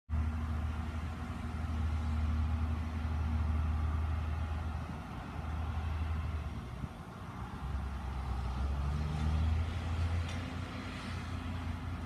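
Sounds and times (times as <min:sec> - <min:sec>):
engine idling rumble: 0:00.1 - 0:12.0.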